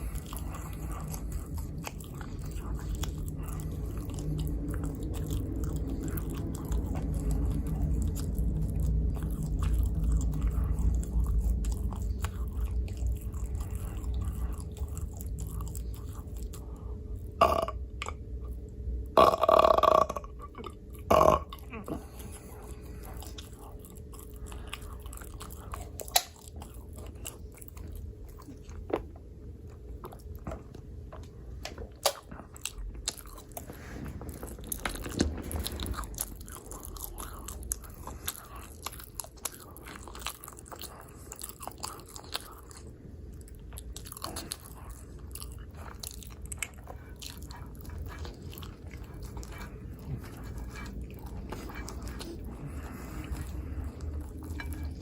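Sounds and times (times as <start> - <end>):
person chewing pizza: 0.0 - 55.0.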